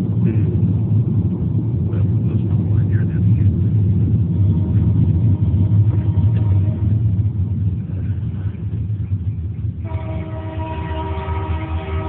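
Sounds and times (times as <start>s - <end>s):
car engine and tyre rumble: 0.0s - 11.9s.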